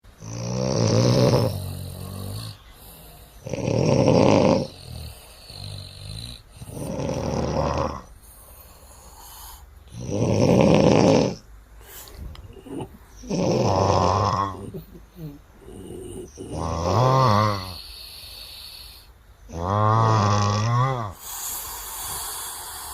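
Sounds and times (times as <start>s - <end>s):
man snoring loudly: 0.2s - 8.1s, 8.9s - 11.4s, 12.6s - 22.9s.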